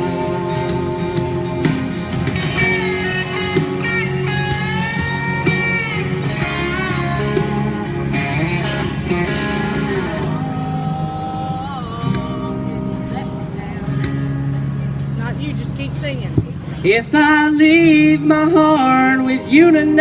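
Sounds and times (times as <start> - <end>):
lead guitar solo: 0.0 - 17.1
band backing: 0.0 - 20.0.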